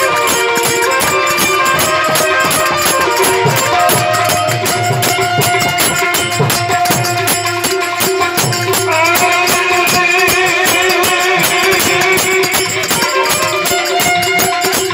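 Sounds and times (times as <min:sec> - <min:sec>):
fast repeating percussion strokes: 0:00.0 - 0:14.9
harmonium melody: 0:00.0 - 0:14.9
tabla: 0:00.0 - 0:14.9.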